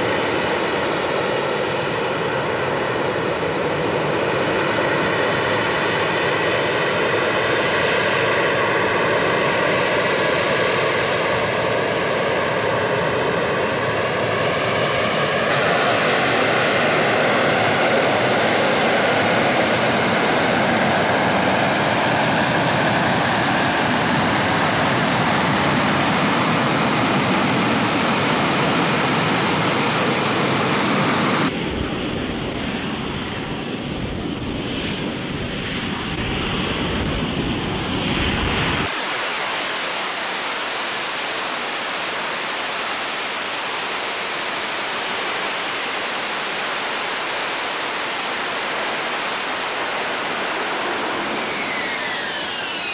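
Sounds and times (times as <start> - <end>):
jet engine roar with turbine whine: 0.0 - 52.9.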